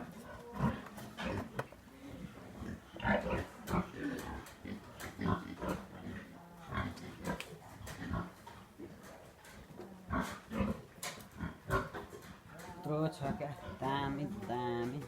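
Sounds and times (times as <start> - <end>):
pigs grunting: 0.0 - 1.5, 2.2 - 14.2.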